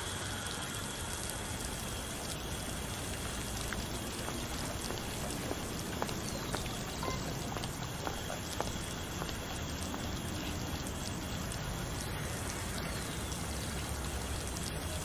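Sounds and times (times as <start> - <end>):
faint ticks: 0.0 - 15.0
water spraying from hose nozzle: 0.0 - 15.0.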